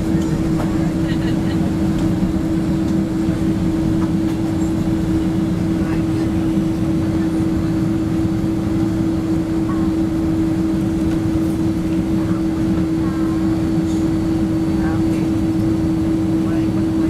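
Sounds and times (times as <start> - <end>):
jet engine and cabin hum: 0.0 - 17.0.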